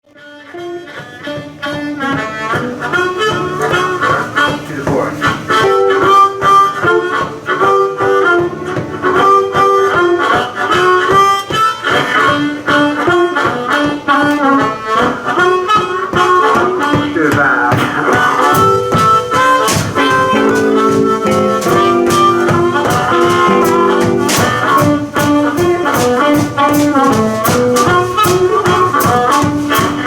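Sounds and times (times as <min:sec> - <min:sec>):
harmonica: 0:00.0 - 0:30.0
drums keeping a steady beat: 0:00.1 - 0:30.0
electric guitars: 0:00.2 - 0:30.0.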